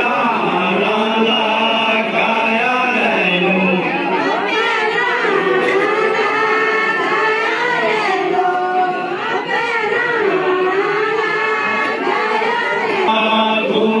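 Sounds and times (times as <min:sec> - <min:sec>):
group of men singing: 0:00.0 - 0:14.0.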